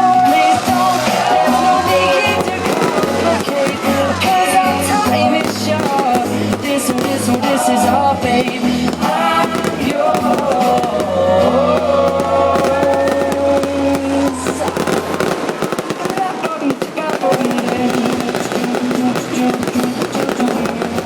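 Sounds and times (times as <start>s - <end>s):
fireworks bursting: 0.0s - 21.0s
pop song with male singer: 0.0s - 21.0s.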